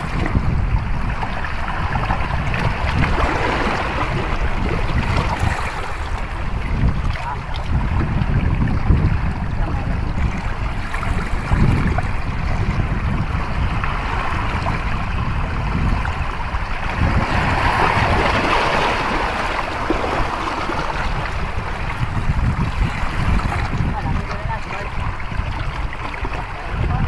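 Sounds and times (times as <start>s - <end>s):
wave splashing over rocks: 0.0s - 27.0s
waves washing against rocks: 0.0s - 27.0s
wind rumbling on microphone: 0.0s - 27.0s.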